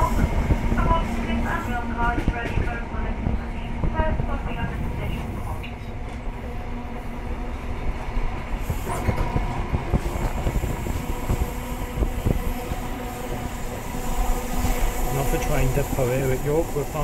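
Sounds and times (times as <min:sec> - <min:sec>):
rumble of wheels on rails: 0:00.0 - 0:17.0.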